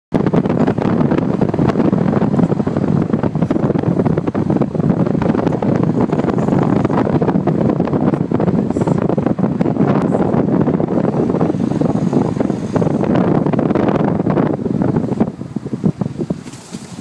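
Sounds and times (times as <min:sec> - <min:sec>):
wind rushing through car window: 0:00.1 - 0:17.0.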